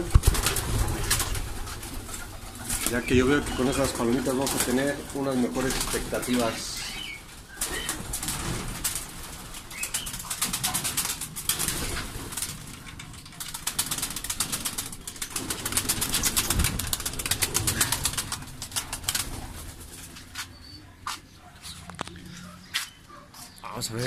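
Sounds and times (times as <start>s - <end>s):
pigeon wings flapping: 0.0s - 20.6s.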